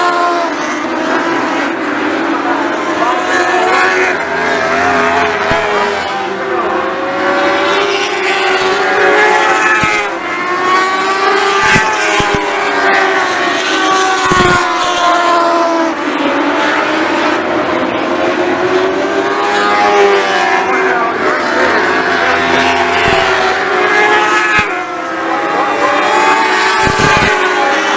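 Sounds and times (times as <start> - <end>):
race car engines revving: 0.0 - 27.9.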